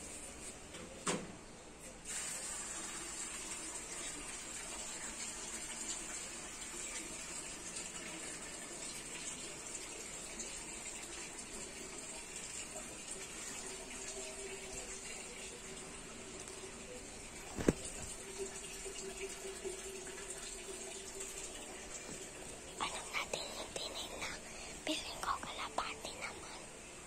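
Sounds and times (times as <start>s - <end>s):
water running: 2.0s - 27.0s.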